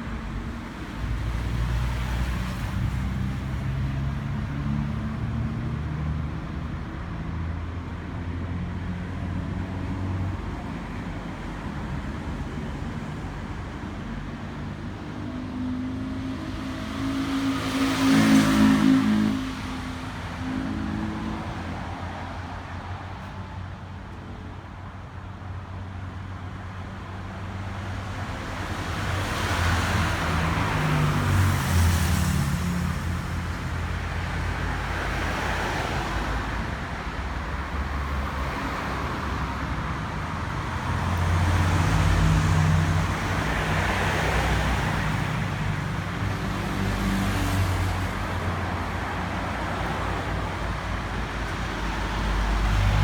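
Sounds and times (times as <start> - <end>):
vehicles passing: 0.0 - 53.0.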